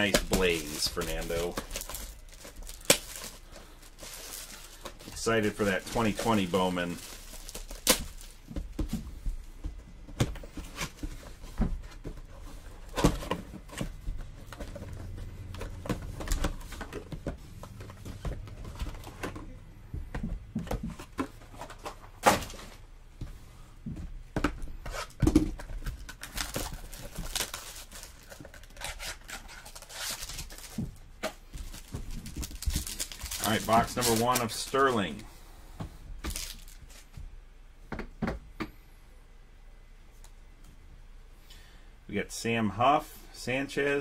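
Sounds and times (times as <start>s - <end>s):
cardboard boxes and packs handled: 0.0s - 35.2s, 36.2s - 37.2s.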